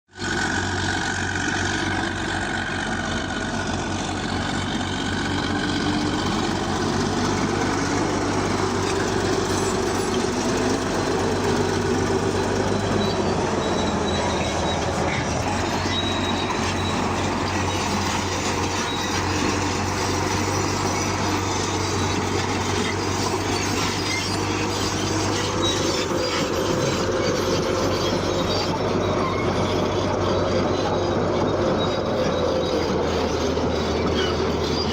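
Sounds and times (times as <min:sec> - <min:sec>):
diesel engine humming: 0:00.1 - 0:34.9
high squeals: 0:00.2 - 0:34.9
steel tracks clanking: 0:00.9 - 0:34.9.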